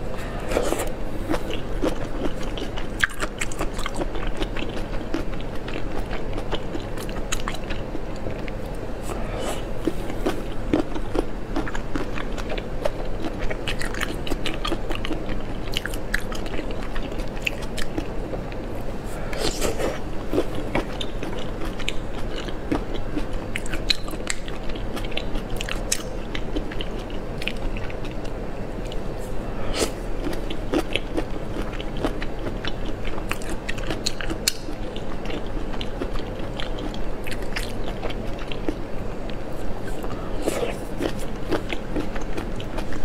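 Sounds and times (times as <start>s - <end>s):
chewing food: 0.2s - 43.0s.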